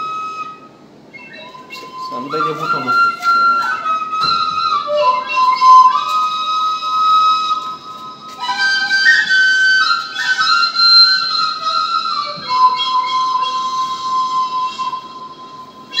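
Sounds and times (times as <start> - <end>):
folk flute melody: 0.0 - 16.0.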